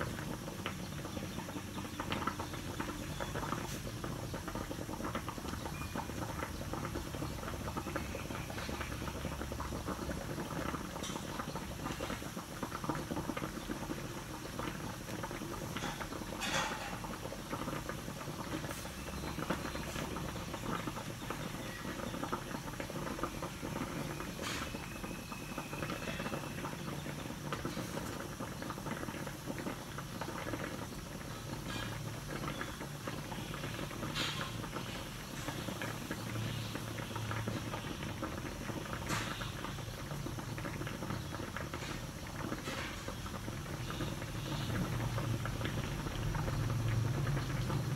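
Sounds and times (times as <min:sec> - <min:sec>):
liquid boiling in wok: 0:00.0 - 0:47.9.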